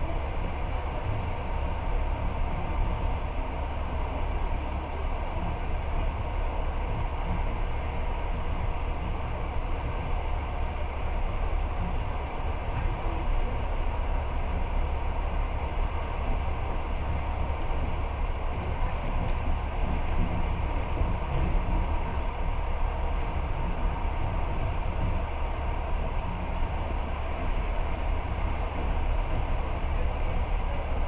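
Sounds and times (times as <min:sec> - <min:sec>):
train rumbling at speed: 0:00.0 - 0:31.0.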